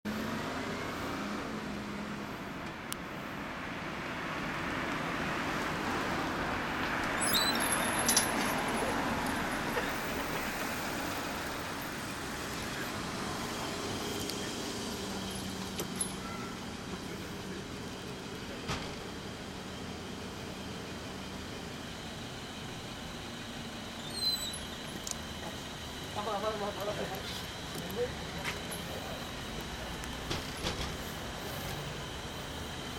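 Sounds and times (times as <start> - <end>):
road traffic: 0.0 - 32.9.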